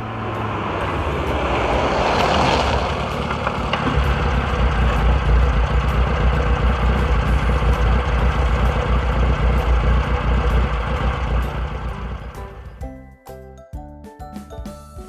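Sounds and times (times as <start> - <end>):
vehicle engine idling: 0.0 - 12.8.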